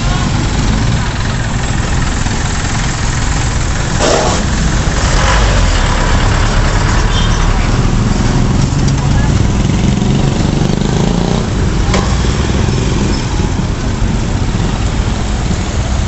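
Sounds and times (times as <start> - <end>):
low engine rumble: 0.0 - 16.0
motorcycles passing: 0.0 - 16.0
vehicle engine passing: 0.0 - 16.0.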